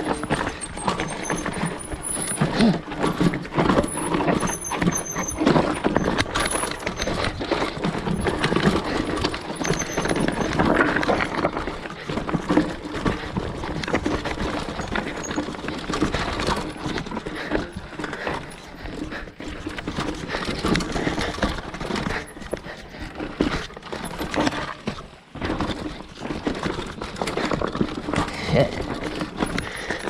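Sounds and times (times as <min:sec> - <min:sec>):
mountain bike rattling over rocks: 0:00.0 - 0:30.0.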